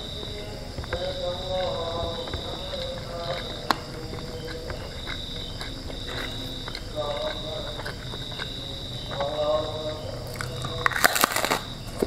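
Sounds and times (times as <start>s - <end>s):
crickets trilling: 0.0s - 12.0s
fingers mixing rice on plastic tray: 0.0s - 12.0s.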